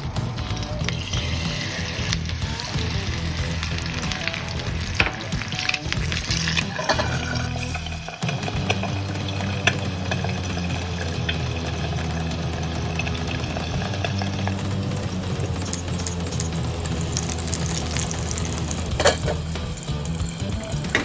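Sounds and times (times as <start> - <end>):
food sizzling in a skillet: 0.0 - 21.0
utensil scraping a pan: 0.8 - 19.8.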